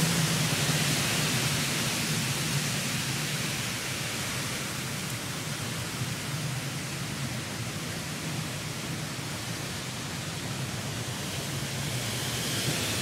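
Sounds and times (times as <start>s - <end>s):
storm wind and rain: 0.0s - 13.0s.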